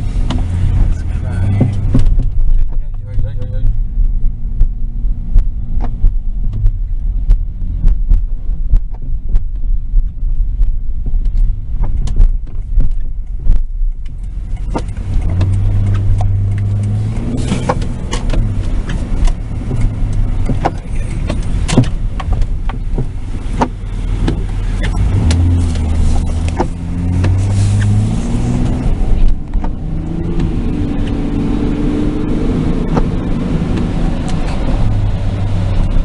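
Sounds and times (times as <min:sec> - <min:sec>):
car cabin road rumble: 0:00.0 - 0:36.0
sharp knocks and clicks: 0:01.4 - 0:03.6, 0:05.3 - 0:28.1, 0:28.8 - 0:31.2, 0:32.8 - 0:34.8.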